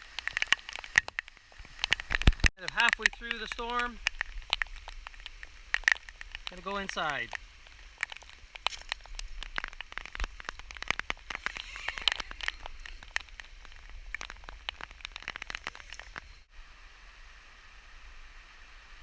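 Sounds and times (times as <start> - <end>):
raindrops ticking close by: 0.0 - 16.5.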